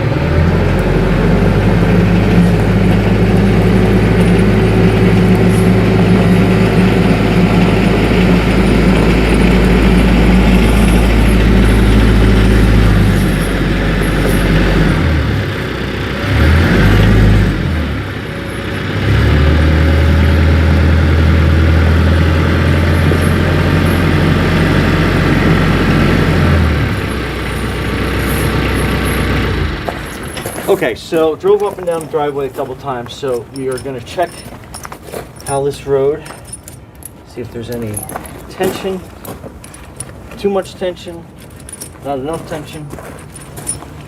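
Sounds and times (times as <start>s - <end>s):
tractor diesel engine running: 0.0s - 40.4s.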